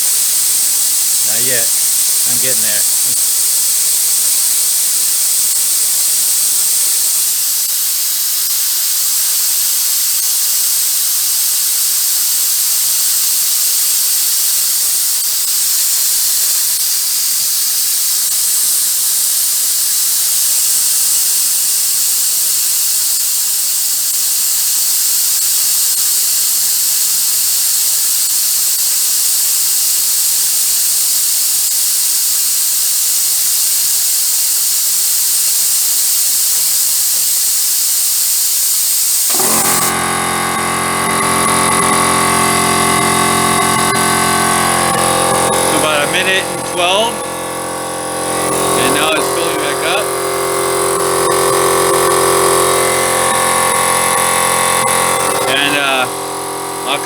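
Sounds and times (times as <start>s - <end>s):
compressed air hissing: 0.0s - 57.0s.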